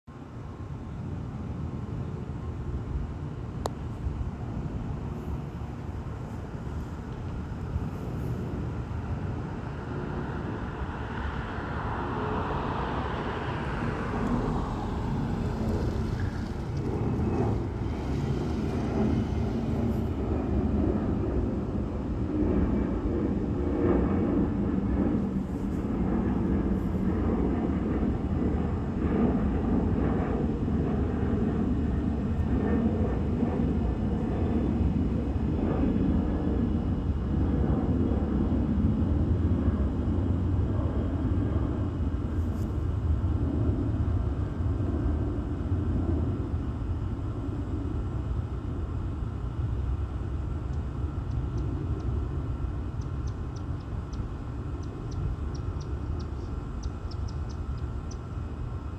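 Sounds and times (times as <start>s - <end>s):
jet engines rumbling: 0.2s - 58.9s.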